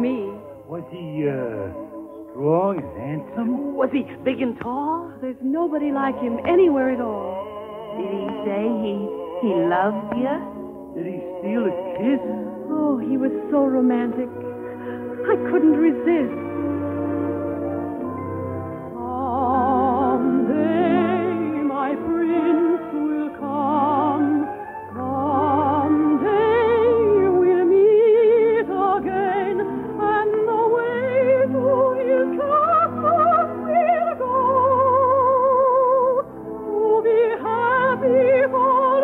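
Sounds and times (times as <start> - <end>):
orchestra playing: 0.0 - 38.8
operatic singer with vibrato: 3.0 - 16.8, 18.9 - 39.0.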